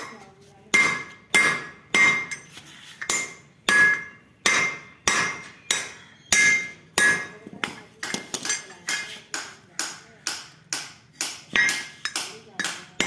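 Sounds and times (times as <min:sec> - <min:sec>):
hammer striking steel: 0:00.0 - 0:13.0.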